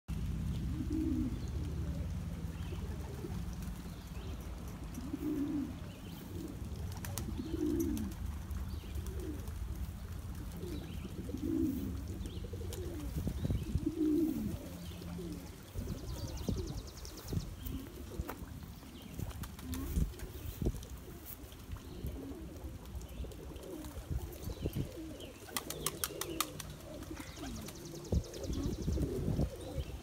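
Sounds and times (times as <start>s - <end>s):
pigeons cooing: 0.1s - 30.0s.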